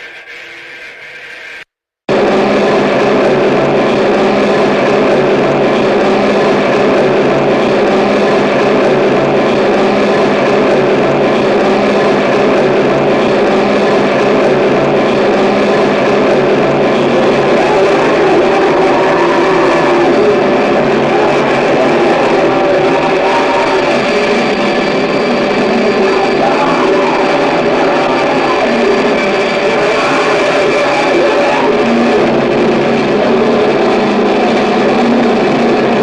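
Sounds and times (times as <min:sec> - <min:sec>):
distorted noise wall: 0:00.0 - 0:36.0
low droning hum: 0:02.1 - 0:36.0.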